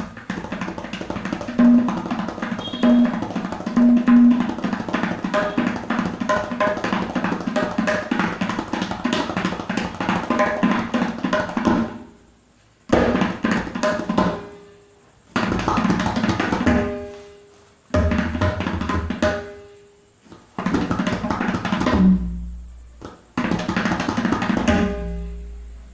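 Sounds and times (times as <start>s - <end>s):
tabla fast strokes: 0.0s - 12.2s, 12.9s - 25.6s.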